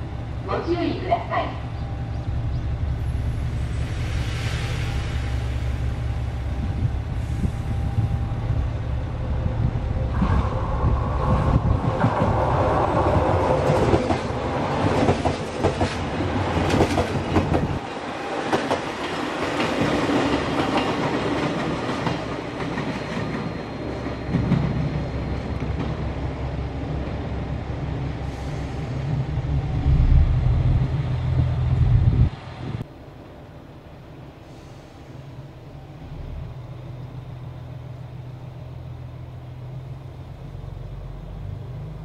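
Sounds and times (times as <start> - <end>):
train diesel engine: 0.0 - 42.0.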